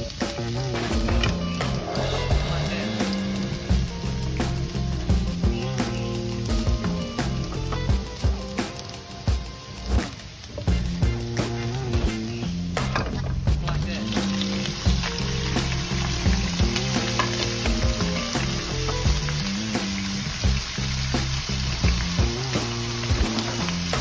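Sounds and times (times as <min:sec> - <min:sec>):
meat sizzling in hot oil: 0:00.0 - 0:24.0.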